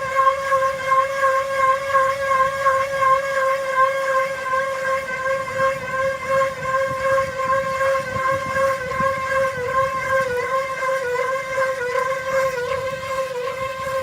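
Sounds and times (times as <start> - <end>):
high-pitched mechanical whine: 0.0 - 14.0.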